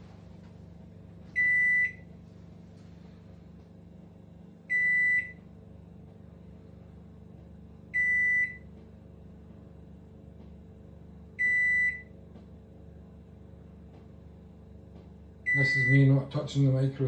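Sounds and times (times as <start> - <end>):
microwave oven beeping: 0.0 - 17.0.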